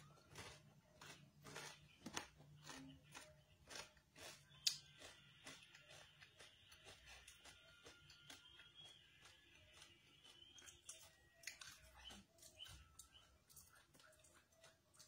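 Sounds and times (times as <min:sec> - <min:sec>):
chewing crispy chicken skin: 0:00.0 - 0:15.0.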